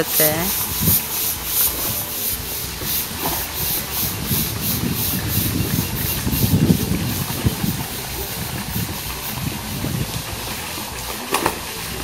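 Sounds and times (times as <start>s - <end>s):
paddlewheel splashing water: 0.0s - 12.0s
water pouring into pond: 0.0s - 12.0s.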